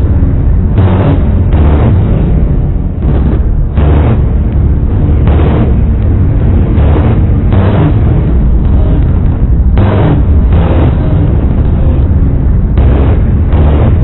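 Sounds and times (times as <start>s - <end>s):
distorted saw sound effect: 0.0s - 14.0s
hissing bursts: 0.0s - 14.0s
low rumble: 0.0s - 14.0s.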